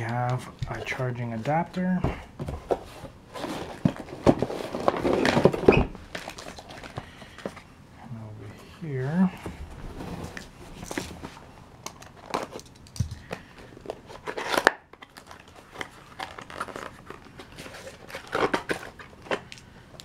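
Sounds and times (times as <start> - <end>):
packaging rustling and crinkling: 0.0 - 7.7, 9.0 - 20.0.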